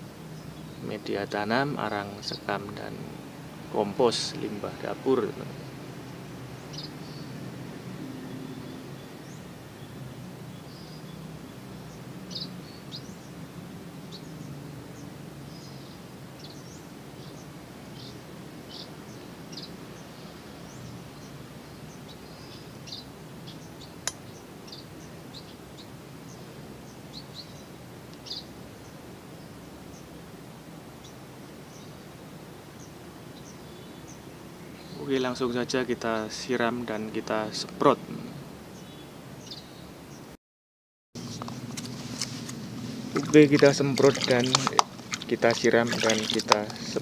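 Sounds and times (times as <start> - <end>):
birds chirping: 0.0 - 40.4, 41.2 - 47.0.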